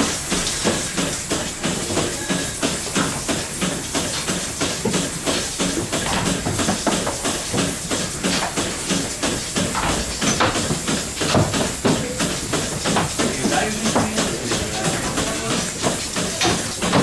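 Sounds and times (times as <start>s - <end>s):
milking machine vacuum hiss: 0.0s - 17.0s
pulsators clicking and hissing: 0.0s - 17.0s.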